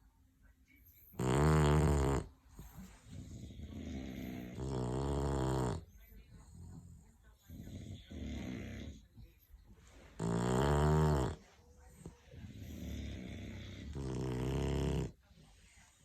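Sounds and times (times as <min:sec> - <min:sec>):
dog snoring: 0:01.0 - 0:09.2, 0:09.9 - 0:11.4, 0:12.0 - 0:15.2.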